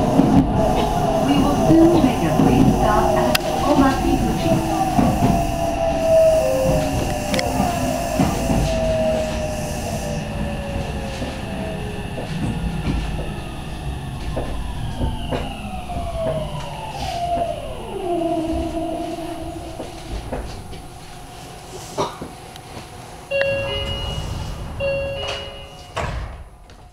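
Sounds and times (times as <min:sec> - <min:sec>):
train motor whine: 0:00.0 - 0:21.8
train running gear rumble: 0:00.0 - 0:26.9.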